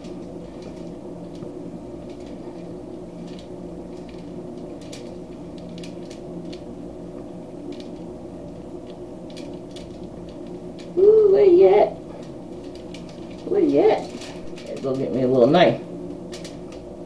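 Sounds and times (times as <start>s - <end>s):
steady low hum: 0.0s - 17.0s
wet squishes and foil crinkles: 0.0s - 17.0s.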